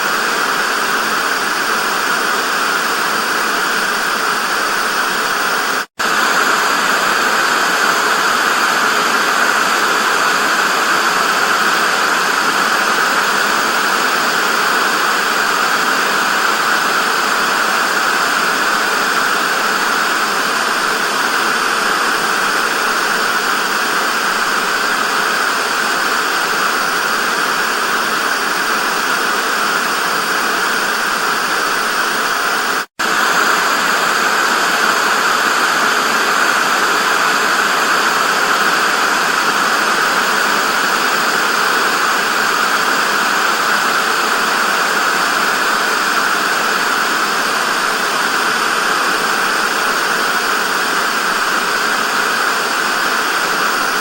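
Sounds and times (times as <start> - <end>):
tv static hiss: 0.0 - 54.0.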